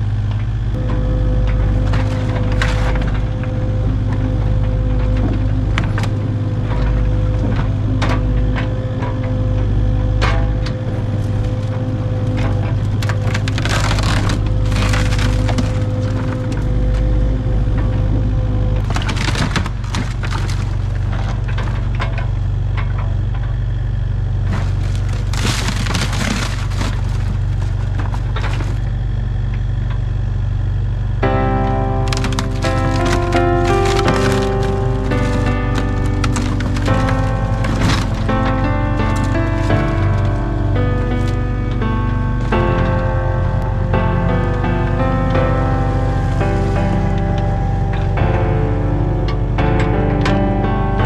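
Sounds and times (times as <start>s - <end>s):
diesel engine running: 0.0s - 51.0s
wood cracking and splintering: 0.3s - 30.2s, 31.2s - 51.0s
sheet metal crushing: 0.7s - 29.4s, 31.2s - 51.0s.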